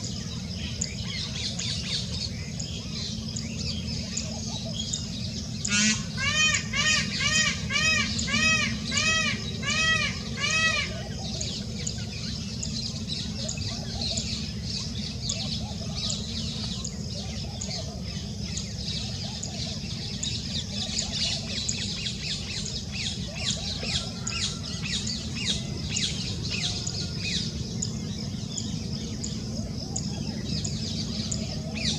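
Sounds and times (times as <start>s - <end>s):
small birds chirping: 0.0s - 31.9s
steady low rumble: 0.0s - 31.9s.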